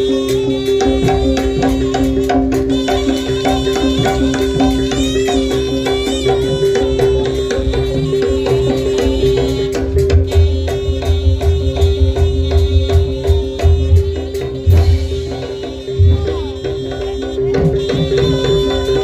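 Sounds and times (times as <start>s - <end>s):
hand drums: 0.0s - 19.0s
heavy low drum beats: 0.0s - 19.0s.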